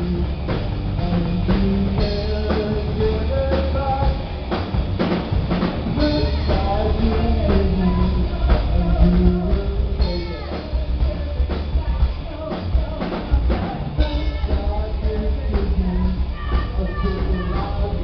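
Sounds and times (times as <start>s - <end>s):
bass guitar: 0.0s - 18.0s
drum kit: 0.0s - 18.0s
guitar: 0.0s - 18.0s.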